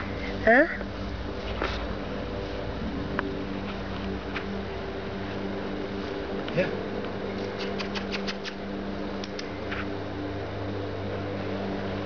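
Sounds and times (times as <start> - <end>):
low motor drone: 0.0 - 12.0.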